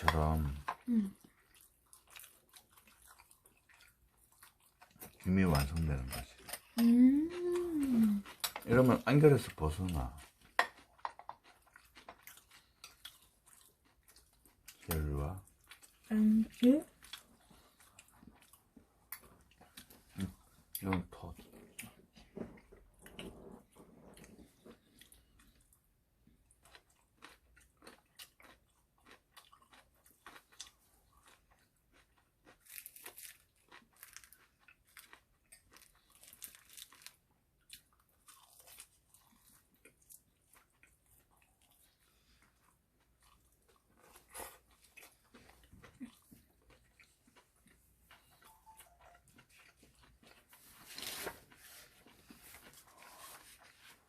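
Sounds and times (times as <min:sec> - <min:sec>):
crunching and chewing: 0:00.0 - 0:54.0.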